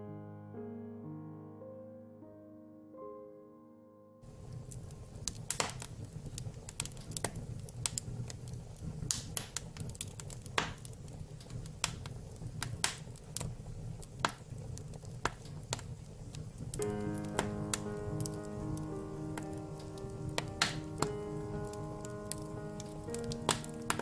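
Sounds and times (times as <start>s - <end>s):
low rumble of flame: 4.3s - 24.0s
wood fire crackling and popping: 4.3s - 24.0s.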